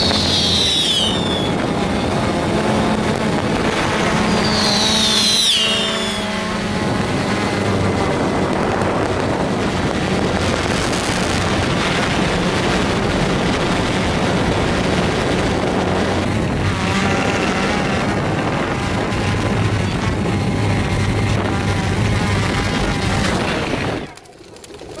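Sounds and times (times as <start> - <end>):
drone propellers buzzing: 0.0 - 25.0.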